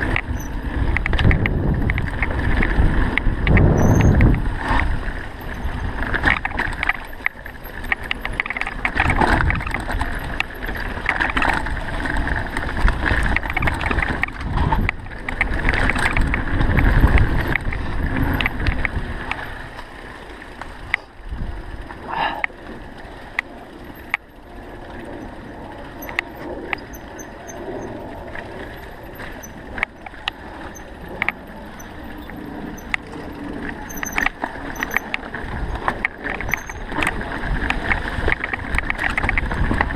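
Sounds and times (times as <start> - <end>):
wind buffeting microphone: 0.0 - 19.8, 23.6 - 39.9
bike parts rattling: 0.0 - 39.9
tyre noise on dirt: 0.0 - 39.9.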